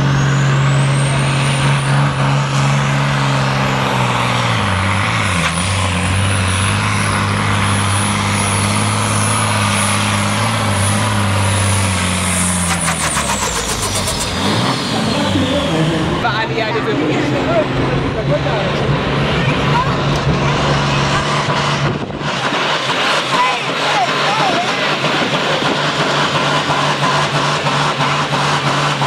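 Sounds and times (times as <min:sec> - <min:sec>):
truck diesel engine under load: 0:00.0 - 0:29.0.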